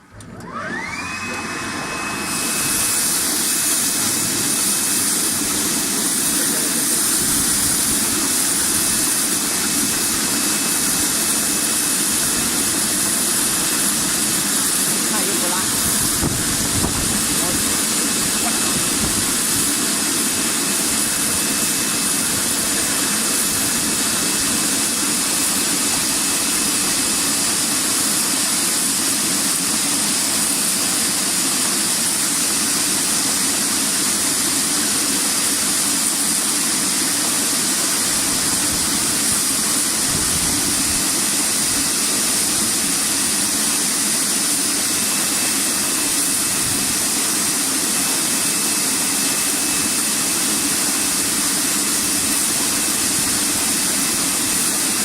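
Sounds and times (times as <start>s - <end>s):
water spray hissing: 2.5s - 55.0s.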